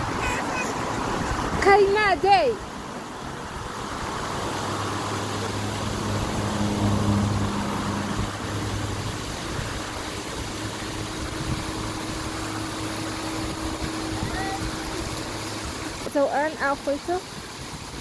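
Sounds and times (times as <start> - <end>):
hose water splashing on mud: 3.4 - 18.0.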